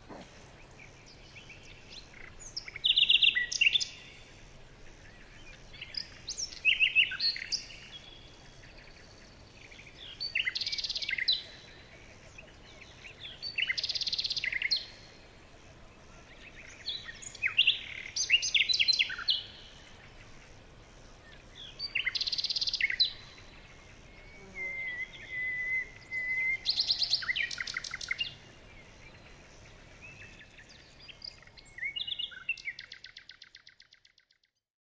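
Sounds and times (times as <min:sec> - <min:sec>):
faint steady hiss: 0:00.0 - 0:34.2
songbirds singing: 0:00.0 - 0:34.6.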